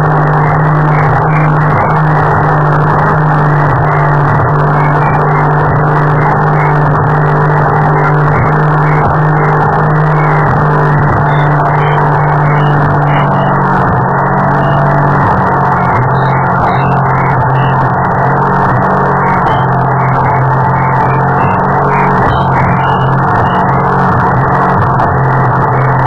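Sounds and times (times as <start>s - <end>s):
speedboat engine droning: 0.0s - 26.0s
water noise: 0.0s - 26.0s.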